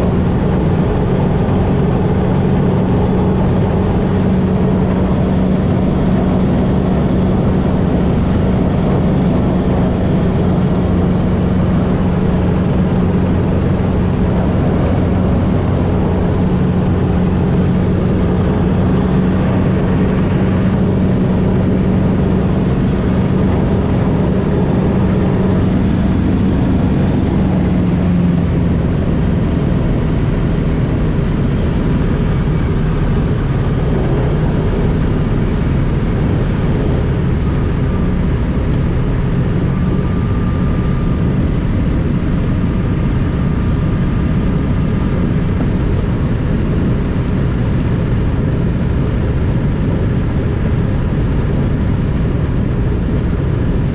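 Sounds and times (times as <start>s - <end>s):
propeller engine humming: 0.0s - 53.9s.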